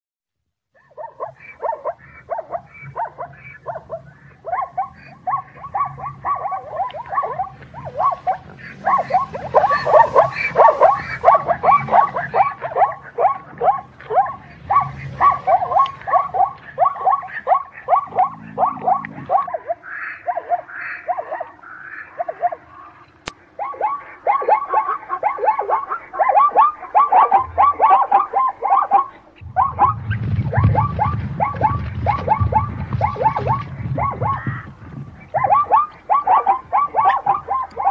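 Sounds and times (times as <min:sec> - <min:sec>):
zebra barking yelps: 0:00.8 - 0:37.9.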